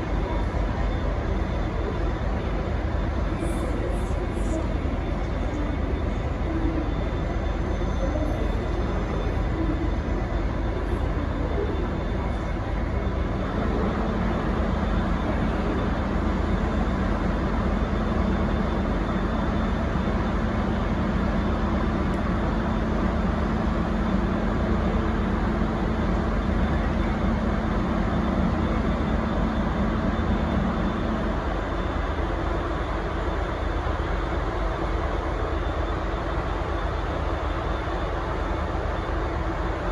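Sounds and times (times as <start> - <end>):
locomotive diesel engine running: 0.0 - 39.9.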